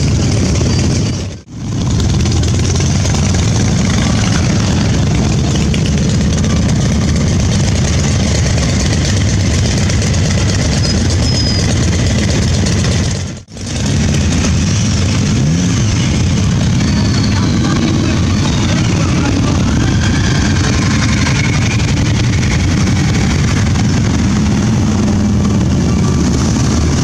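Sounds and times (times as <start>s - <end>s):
motorcycle engines droning: 0.0s - 27.0s.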